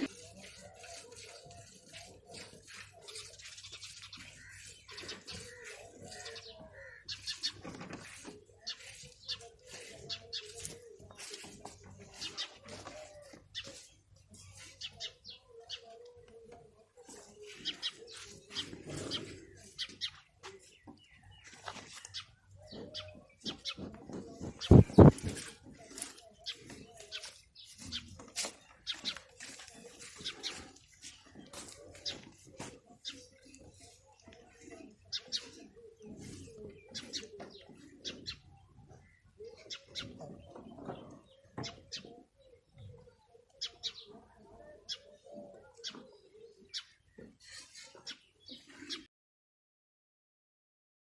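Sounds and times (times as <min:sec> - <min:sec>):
baby birds chirping: 0:00.0 - 0:16.6, 0:17.2 - 0:44.2.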